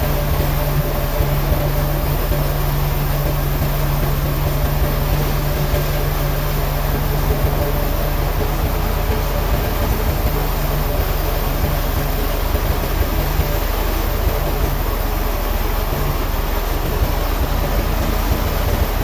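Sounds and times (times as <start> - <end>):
woodworking machinery running: 0.0 - 19.0.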